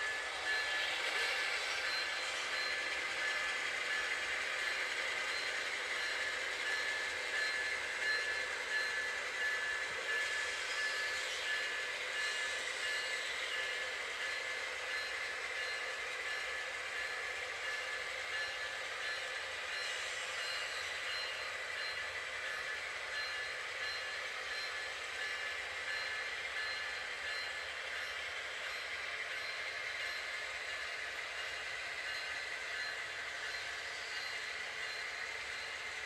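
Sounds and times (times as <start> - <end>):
thin high-pitched pulsing tones: 0.0 - 36.0
train rolling on tracks: 0.0 - 36.0.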